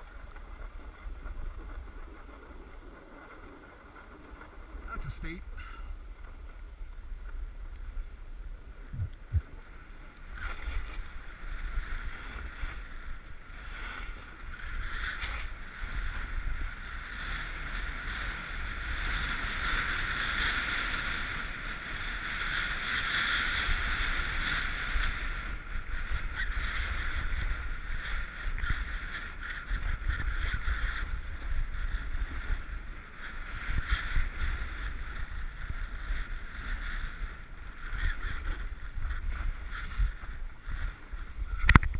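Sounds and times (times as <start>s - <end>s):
snowboard scraping over snow: 0.0s - 41.7s
wind rumble on microphone: 0.0s - 41.9s.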